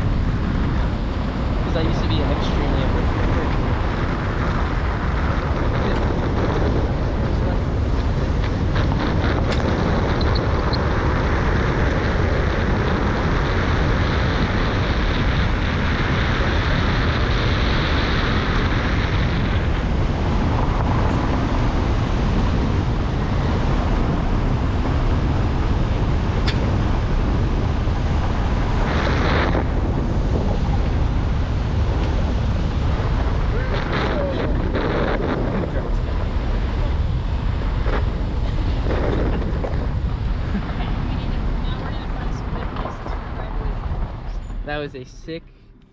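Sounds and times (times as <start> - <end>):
tyre and road rumble: 0.0 - 45.9
wind buffeting microphone: 0.0 - 45.9.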